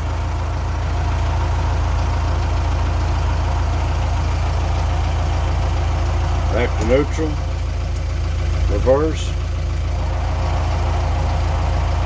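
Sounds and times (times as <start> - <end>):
diesel tractor running: 0.0 - 12.0.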